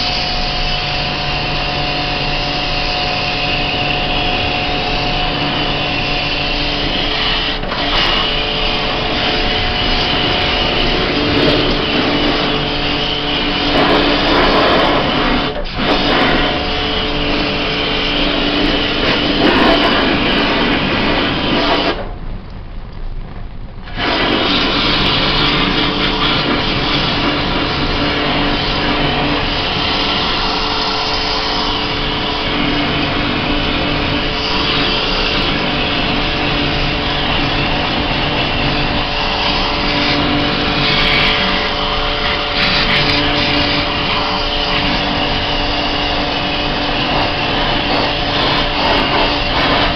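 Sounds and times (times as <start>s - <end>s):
pressure washer spray hissing: 0.0s - 22.1s, 23.9s - 49.9s.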